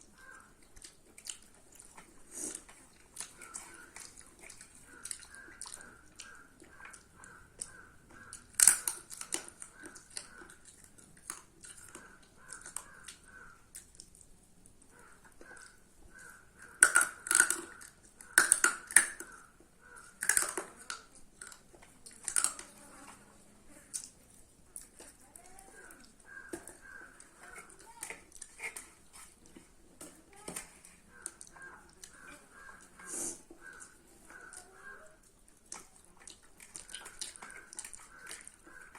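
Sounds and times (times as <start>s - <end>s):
chewing with wet mouth smacks: 0.0s - 22.8s, 23.8s - 38.9s.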